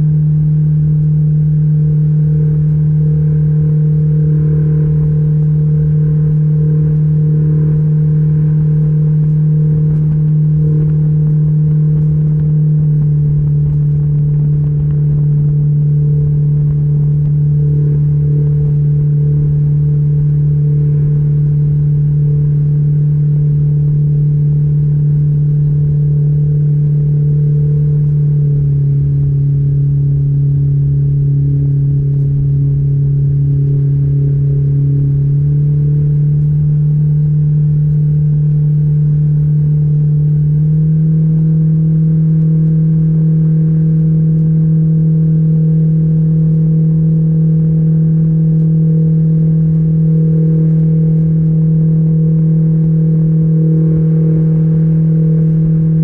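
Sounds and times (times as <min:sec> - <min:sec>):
outboard boat engine cruising: 0:00.0 - 0:56.0.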